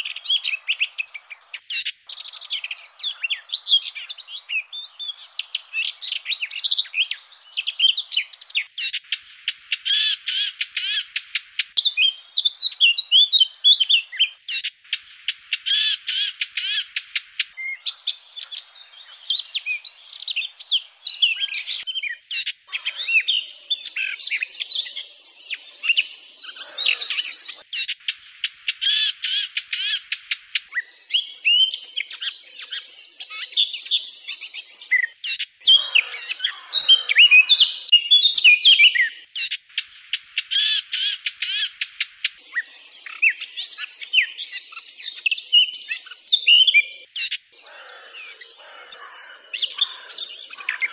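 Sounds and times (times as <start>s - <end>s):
bird warbling song: 0.0s - 50.9s.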